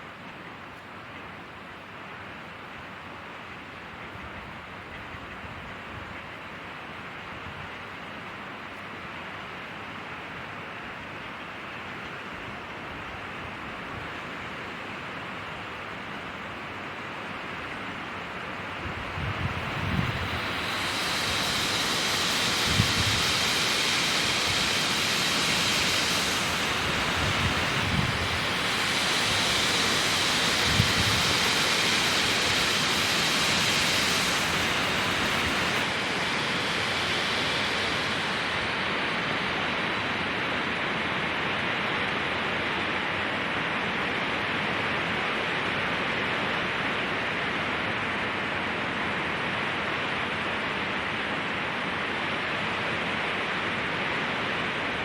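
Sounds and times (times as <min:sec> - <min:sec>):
wind rushing through pine trees: 0:01.8 - 0:55.0.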